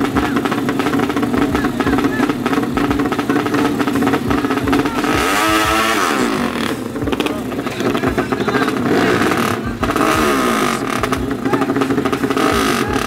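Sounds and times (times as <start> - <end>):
engine revving sharply: 0.0 - 13.0
scooter engines blipping throttle: 0.0 - 13.0.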